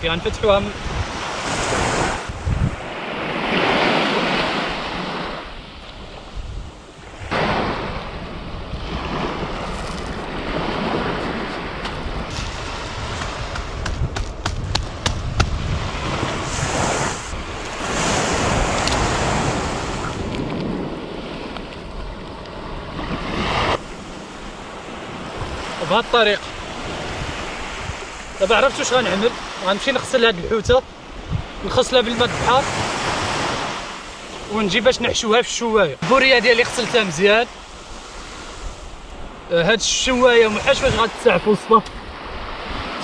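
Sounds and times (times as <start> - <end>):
wind on microphone: 0.0 - 35.2, 36.0 - 43.0
sea surf breaking: 0.0 - 43.0.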